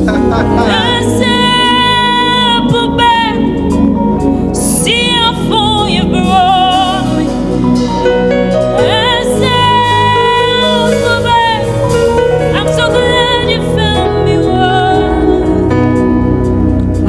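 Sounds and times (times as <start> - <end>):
gospel band playing: 0.0 - 17.0
sustained lead melody with vibrato: 0.0 - 17.0.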